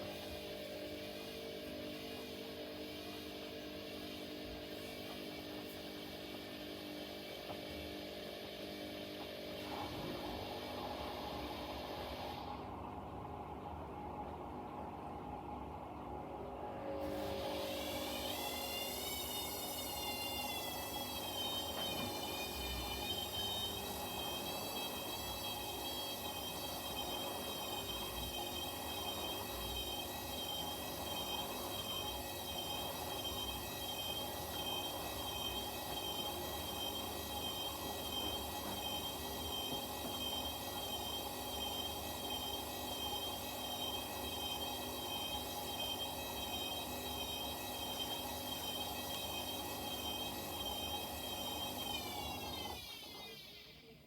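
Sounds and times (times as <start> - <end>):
washing machine spin whine: 0.0 - 54.0.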